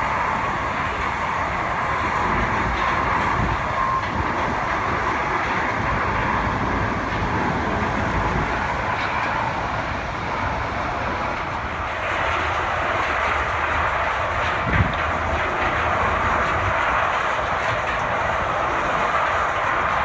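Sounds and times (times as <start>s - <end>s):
diesel machinery rumbling: 0.0s - 20.0s.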